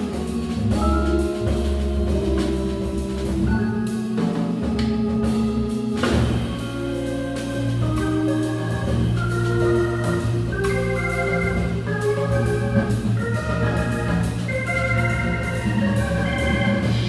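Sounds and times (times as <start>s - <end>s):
cymbals: 0.0s - 17.0s
organ chords: 0.0s - 17.0s
walking bass line: 0.0s - 17.0s.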